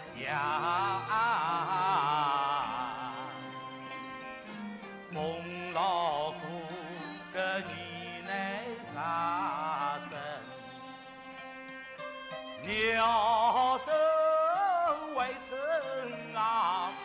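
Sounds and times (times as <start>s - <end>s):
man singing opera with vibrato: 0.0s - 11.1s, 12.5s - 17.0s
instrumental accompaniment: 0.0s - 17.0s.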